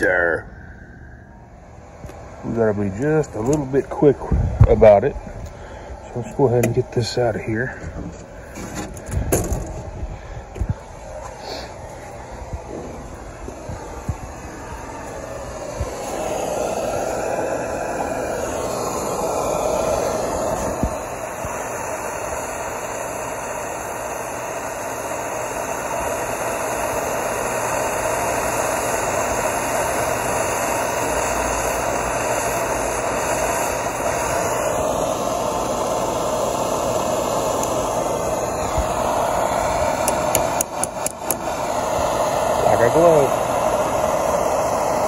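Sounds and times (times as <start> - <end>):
propane torch hissing: 0.0 - 45.0.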